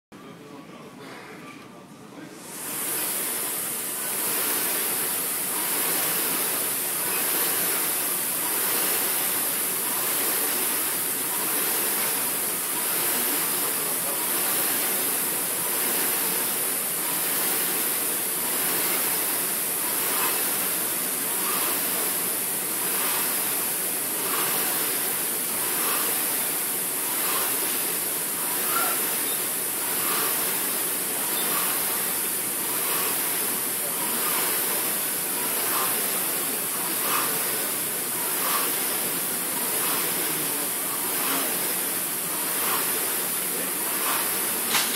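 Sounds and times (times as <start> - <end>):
rowing machine flywheels whooshing: 2.4 - 44.9.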